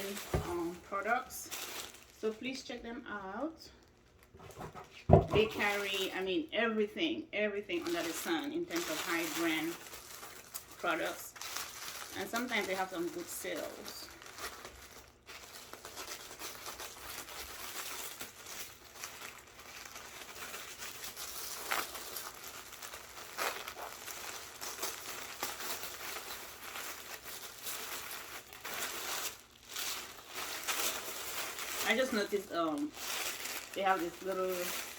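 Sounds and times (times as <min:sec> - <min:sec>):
packaging crinkling and rustling: 0:00.0 - 0:02.9, 0:03.7 - 0:06.4, 0:07.7 - 0:34.9.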